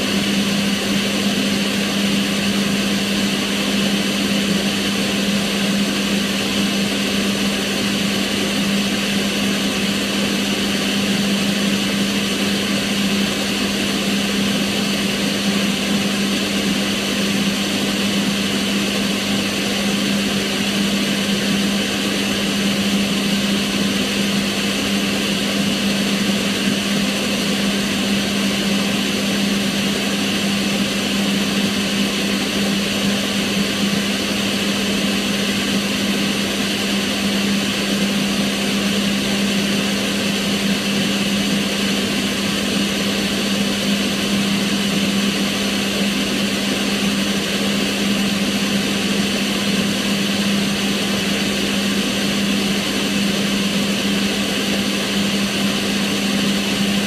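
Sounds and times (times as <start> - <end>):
extractor fan running: 0.0 - 57.0.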